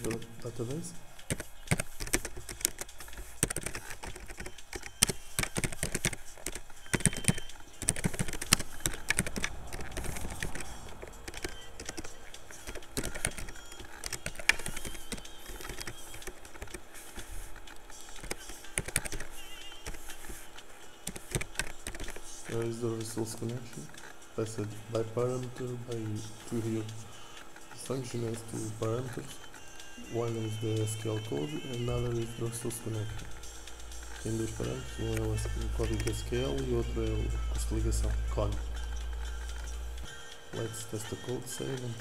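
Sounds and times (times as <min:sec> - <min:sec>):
computer keyboard typing: 0:00.0 - 0:27.0, 0:30.2 - 0:42.0.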